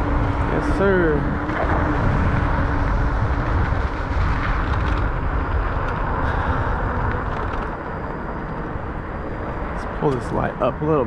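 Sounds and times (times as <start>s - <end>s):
wind noise on microphone: 0.0s - 10.0s
road rush: 0.0s - 11.0s.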